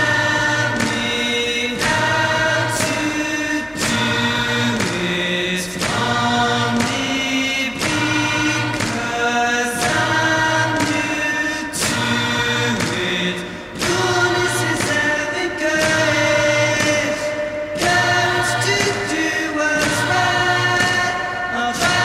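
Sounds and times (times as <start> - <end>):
voices singing long notes: 0.0 - 22.0.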